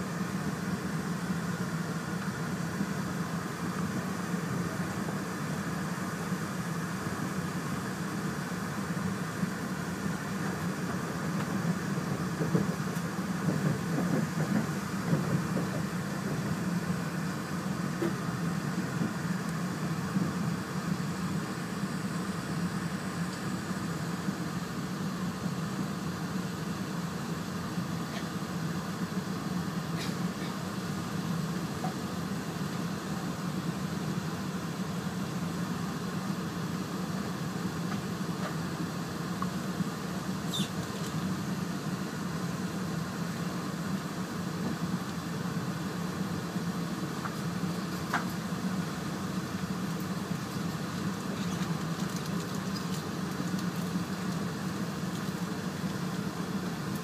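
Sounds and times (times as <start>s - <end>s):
train rumble from inside: 0.0s - 57.0s.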